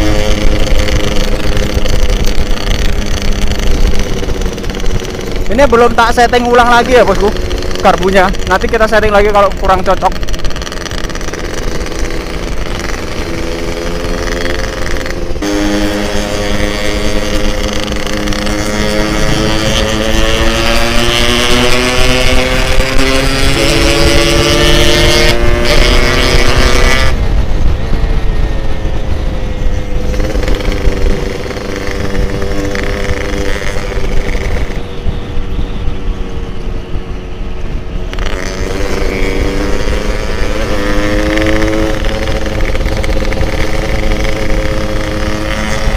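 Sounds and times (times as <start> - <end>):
two-stroke motorcycle engine revving: 0.0 - 45.9
wind rumbling on microphone: 0.0 - 45.9.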